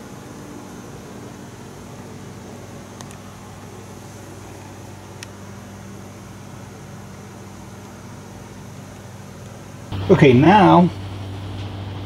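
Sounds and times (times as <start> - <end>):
low hum and hiss of room noise: 0.0 - 12.0.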